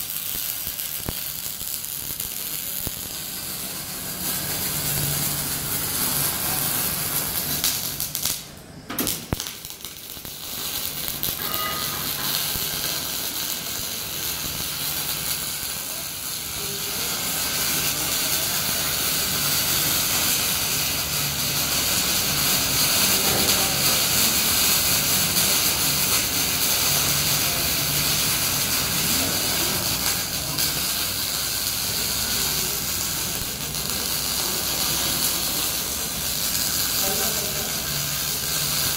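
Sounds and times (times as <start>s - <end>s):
welding arc hissing and crackling: 0.0s - 38.9s.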